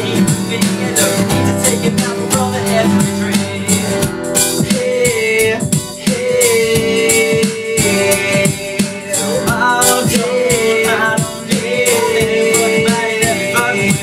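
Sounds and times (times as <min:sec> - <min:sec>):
acoustic guitars strummed: 0:00.0 - 0:14.0
man singing: 0:00.0 - 0:14.0.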